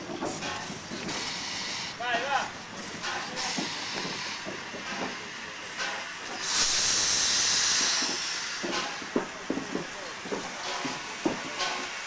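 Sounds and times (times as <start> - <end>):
loud steam hissing: 0.0 - 12.0
steam locomotive passing: 0.0 - 12.0.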